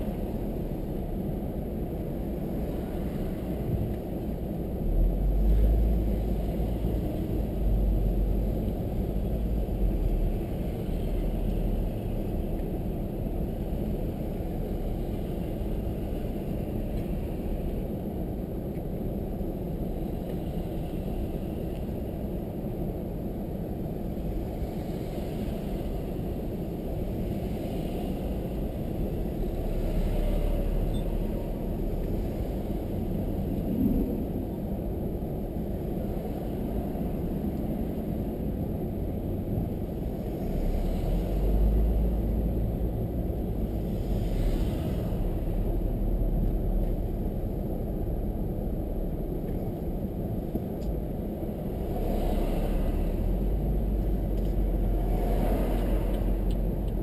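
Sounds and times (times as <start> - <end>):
car interior road and engine rumble: 0.0 - 57.0.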